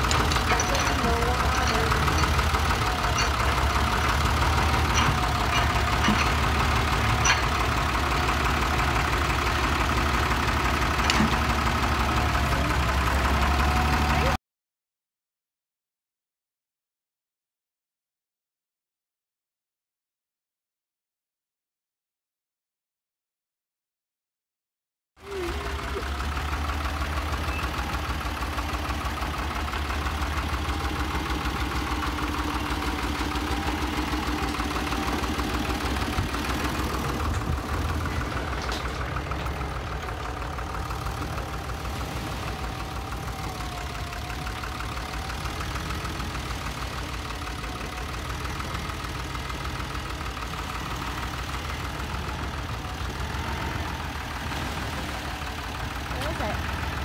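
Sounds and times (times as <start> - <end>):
tractor engine idling: 0.0 - 14.4, 25.2 - 57.0.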